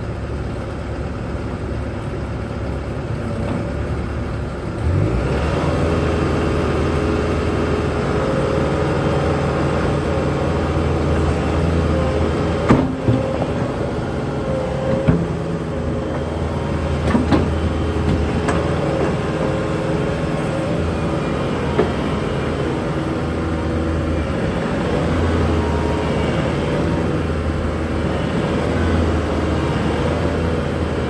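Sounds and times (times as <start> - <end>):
loader knocks and clanks: 0.0 - 31.0
skid steer diesel engine running: 0.0 - 31.0.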